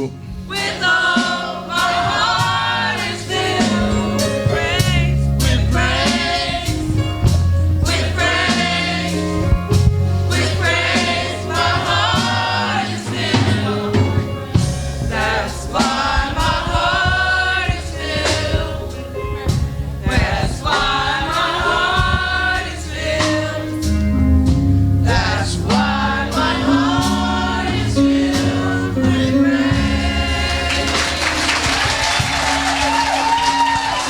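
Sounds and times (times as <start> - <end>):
choir singing gospel song: 0.0 - 34.0
instrumental backing with beat: 0.0 - 34.0.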